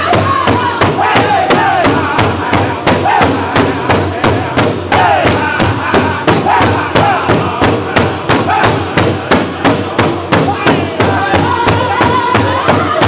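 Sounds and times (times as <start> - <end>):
big drum beat: 0.0 - 13.0
group singing: 0.0 - 13.0.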